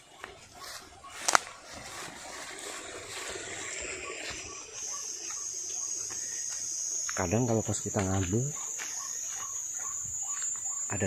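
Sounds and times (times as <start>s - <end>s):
footsteps through grass: 0.0s - 11.0s
leaves rustling: 0.0s - 11.0s.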